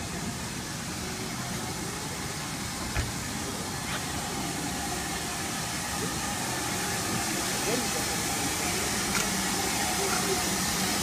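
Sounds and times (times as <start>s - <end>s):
hiss of steam: 0.0s - 11.0s
steam locomotive moving: 0.0s - 11.0s.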